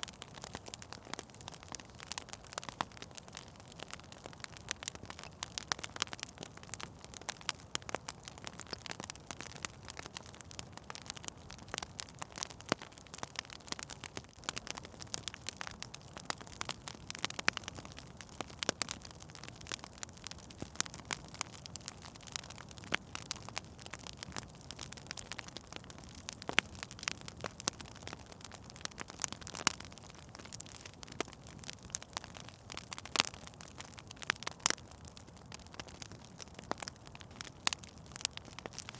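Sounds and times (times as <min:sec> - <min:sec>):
fire crackling in a fireplace: 0:00.0 - 0:38.9.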